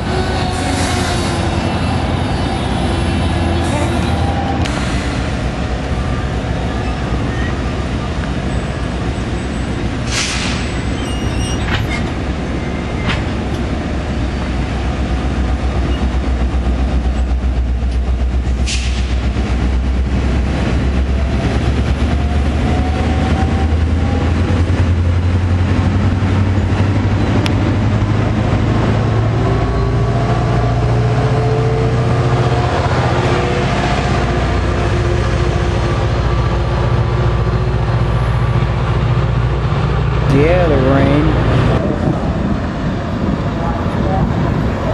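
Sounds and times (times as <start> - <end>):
train engine drone: 0.0 - 44.9.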